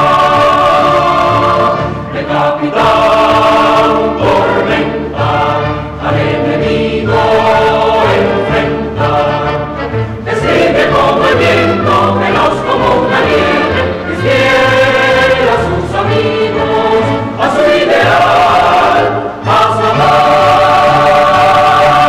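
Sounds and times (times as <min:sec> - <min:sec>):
choir singing long notes: 0:00.0 - 0:22.0
orchestra playing low bass line: 0:00.0 - 0:22.0.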